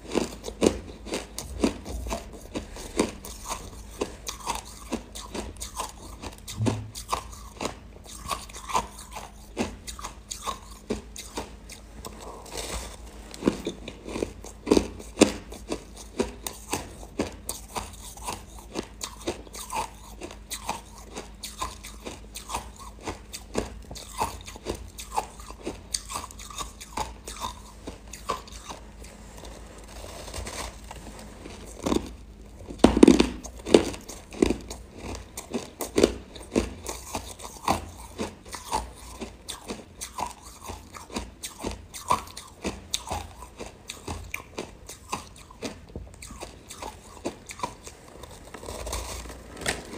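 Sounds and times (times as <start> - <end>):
ice being chewed crunching: 0.0 - 49.9.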